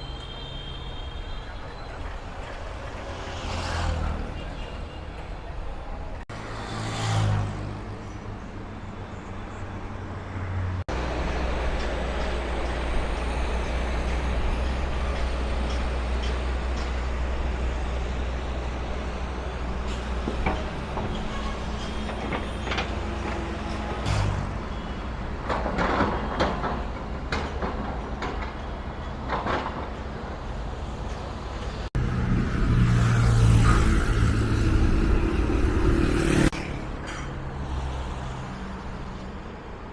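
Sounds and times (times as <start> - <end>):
road traffic rumble: 0.0 - 39.9
vehicles passing: 1.3 - 39.9.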